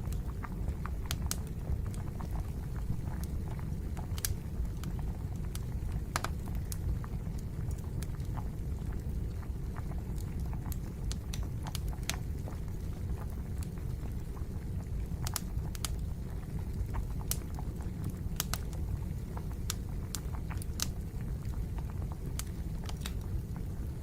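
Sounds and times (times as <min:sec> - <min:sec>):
fire pops: 0:00.0 - 0:08.4, 0:09.8 - 0:16.0, 0:16.6 - 0:23.7
wood fire crackling: 0:00.0 - 0:24.0.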